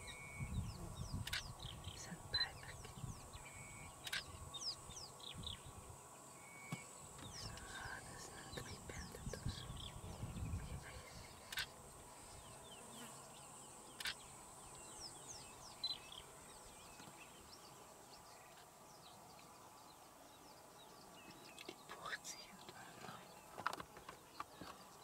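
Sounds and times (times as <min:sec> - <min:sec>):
insect drone: 0:00.0 - 0:25.0
small birds chirping: 0:00.0 - 0:25.0.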